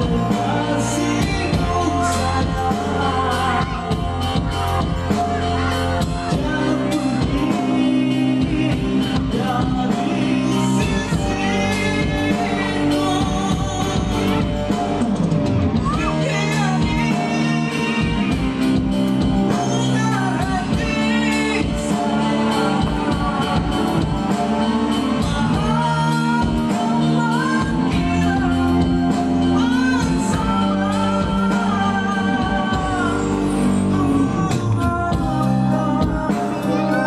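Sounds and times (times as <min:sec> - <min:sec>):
man singing into microphone: 0:00.0 - 0:15.1, 0:15.7 - 0:37.0
steady beat: 0:00.0 - 0:36.8
electric guitar: 0:00.0 - 0:37.0
electronic keyboard: 0:00.0 - 0:37.0.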